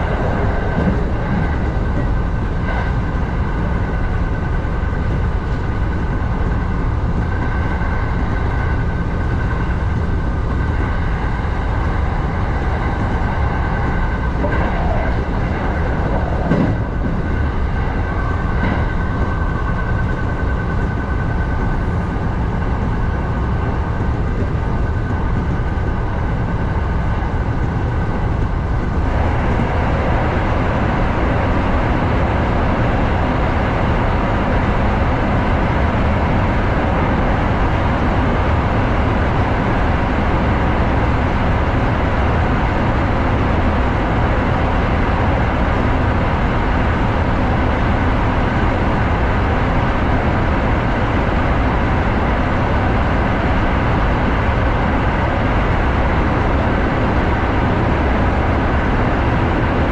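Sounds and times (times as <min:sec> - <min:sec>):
electric train whine: 0:00.0 - 0:59.9
train wheels rumbling in tunnel: 0:00.0 - 0:59.9.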